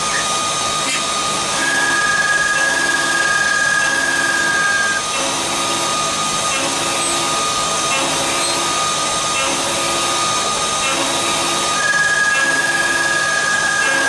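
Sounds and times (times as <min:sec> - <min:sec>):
constant high tone: 0:00.0 - 0:14.0
milling machine whine and hiss: 0:00.0 - 0:14.0.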